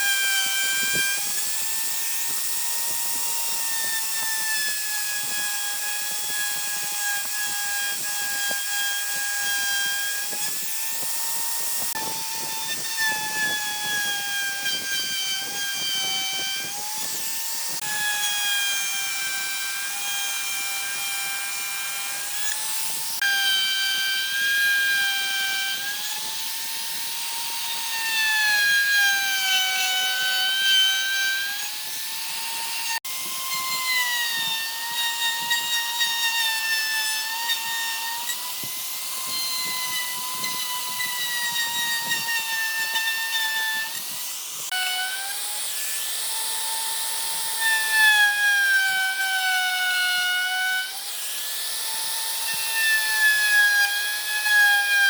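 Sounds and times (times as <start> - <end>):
power tool motor whining: 0.0 - 55.0.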